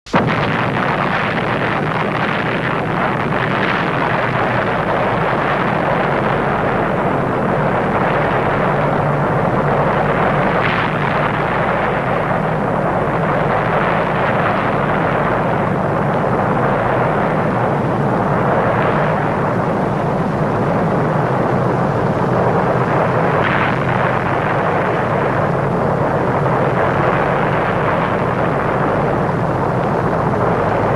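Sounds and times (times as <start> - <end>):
explosion rumbling: 0.1 - 30.9
sharp cracks: 0.1 - 30.9.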